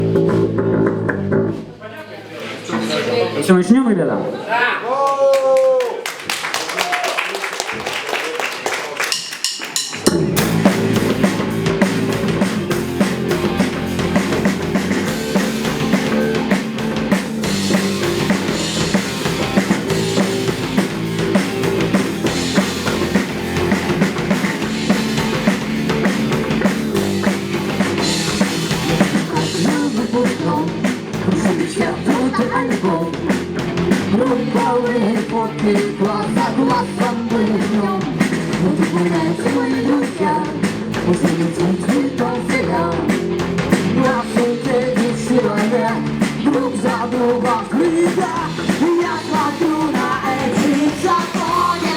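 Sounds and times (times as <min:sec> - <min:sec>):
rock band playing: 0:00.0 - 0:01.8, 0:09.0 - 0:51.9.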